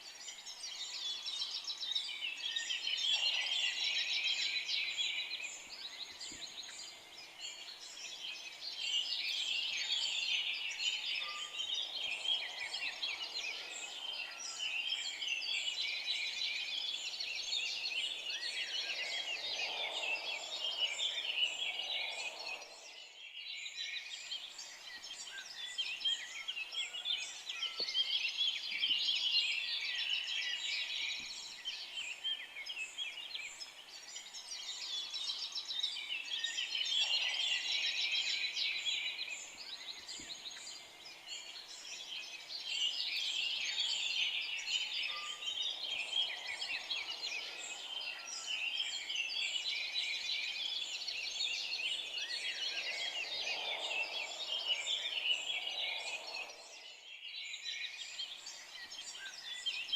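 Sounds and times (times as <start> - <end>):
songbird chorus chirping: 0.0 - 59.9.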